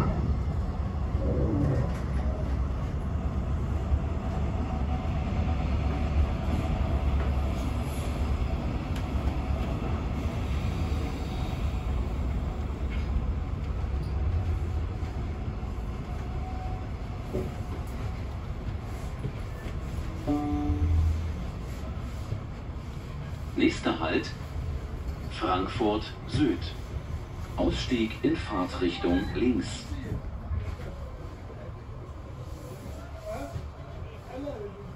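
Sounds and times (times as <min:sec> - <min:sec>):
train wheels rumbling on track: 0:00.0 - 0:34.9.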